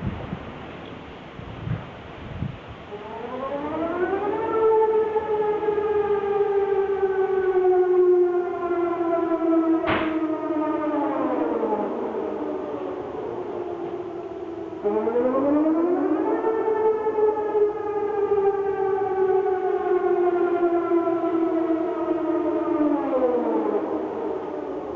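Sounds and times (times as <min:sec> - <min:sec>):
warning siren: 0:02.2 - 0:24.9.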